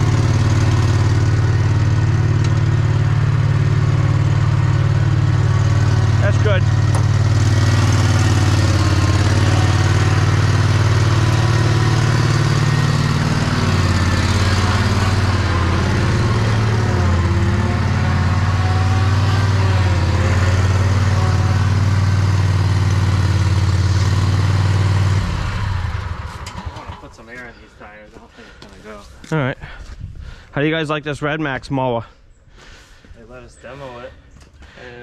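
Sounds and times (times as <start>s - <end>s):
engine running: 0.0s - 29.4s.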